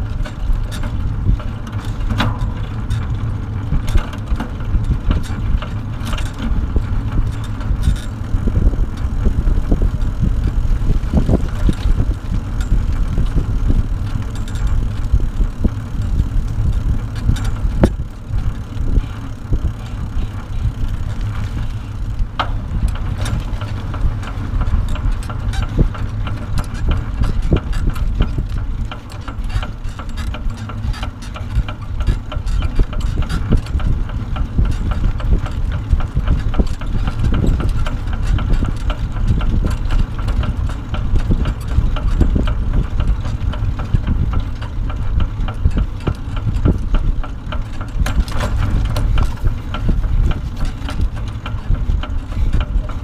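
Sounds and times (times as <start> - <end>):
trailer rattling over road: 0.0 - 53.0
wind noise on microphone: 0.0 - 53.0.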